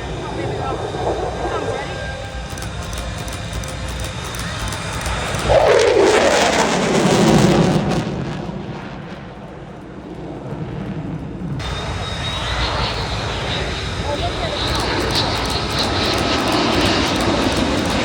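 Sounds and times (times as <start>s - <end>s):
aircraft passing by fast: 0.0s - 18.0s.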